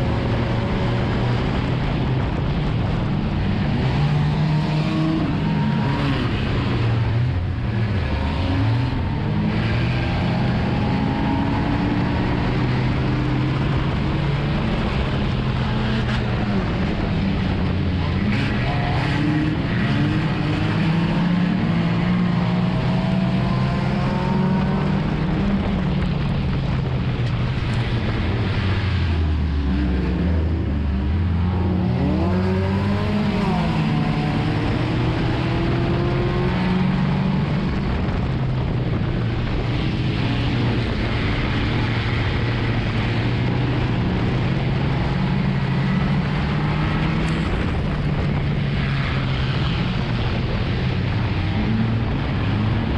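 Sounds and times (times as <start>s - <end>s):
other race car engines: 0.0s - 52.9s.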